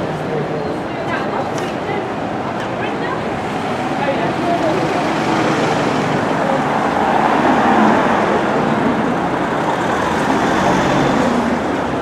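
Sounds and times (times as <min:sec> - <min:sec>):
street traffic noise: 0:00.0 - 0:12.0
cars driving past: 0:01.9 - 0:12.0.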